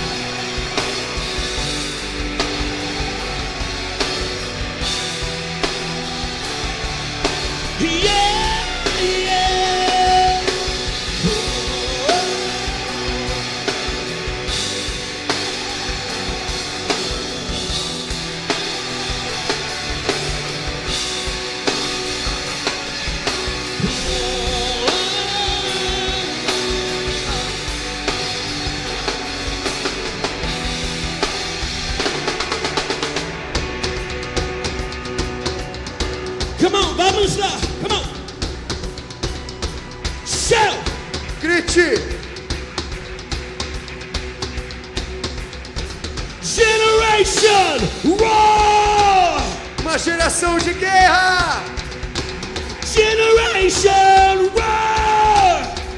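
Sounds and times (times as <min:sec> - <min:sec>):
drum kit beat: 0:00.0 - 0:55.9
electric guitars: 0:00.0 - 0:55.9.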